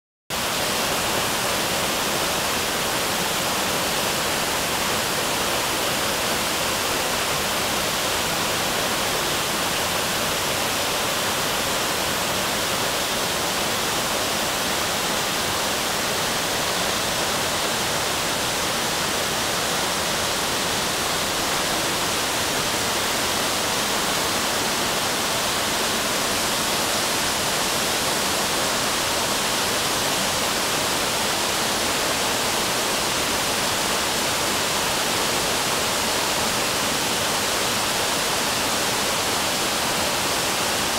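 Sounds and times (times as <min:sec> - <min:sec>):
waterfall rushing: 0:00.3 - 0:40.9.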